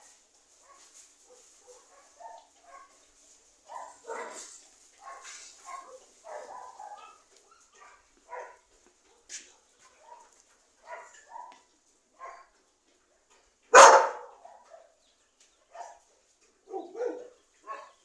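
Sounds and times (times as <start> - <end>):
dogs barking: 0.7 - 3.0, 3.7 - 12.6, 13.7 - 15.0, 15.7 - 18.0.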